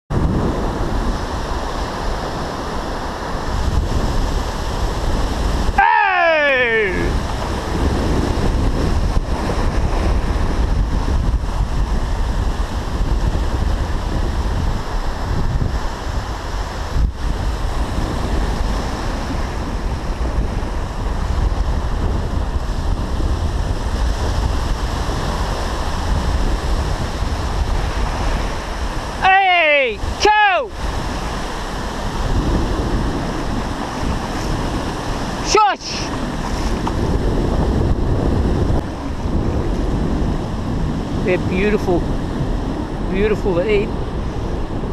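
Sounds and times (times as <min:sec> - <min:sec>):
ocean surf washing over sand: 0:00.1 - 0:44.9
wind rumbling on microphone: 0:00.1 - 0:44.9.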